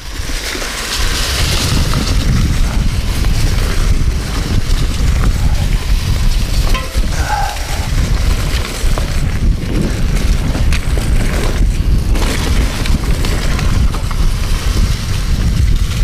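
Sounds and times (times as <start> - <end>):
rolling bike tyres: 0.0 - 16.0
bike knocks and rattles: 0.4 - 16.0
wind buffeting microphone: 1.0 - 16.0.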